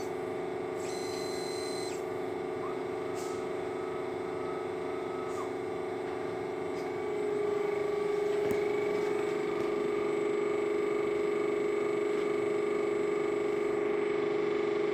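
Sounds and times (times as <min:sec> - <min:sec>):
mechanical hum with flutter: 0:00.0 - 0:14.9.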